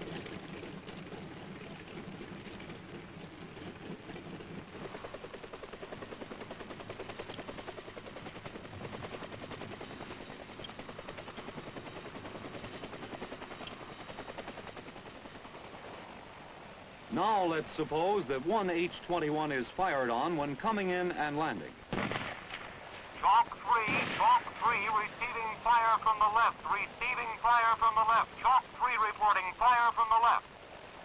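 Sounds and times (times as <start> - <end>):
helicopter engine and rotor noise: 0.0 - 31.0.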